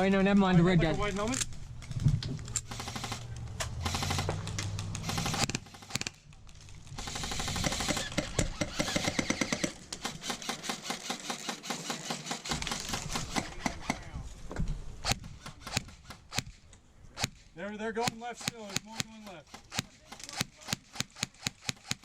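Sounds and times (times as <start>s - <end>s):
airsoft guns firing: 2.6s - 14.2s, 15.0s - 16.6s, 17.2s - 22.0s.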